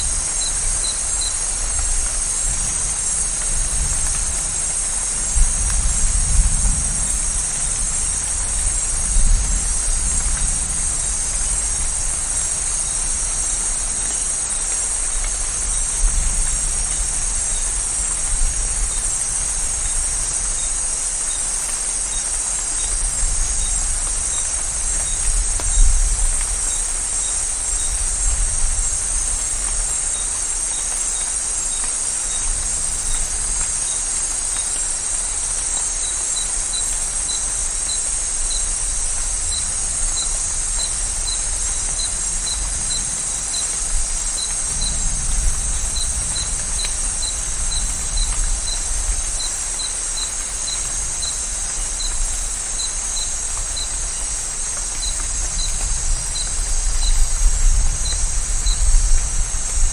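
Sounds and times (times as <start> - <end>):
insect chorus: 0.0 - 59.9
steady rain hiss: 0.0 - 59.9.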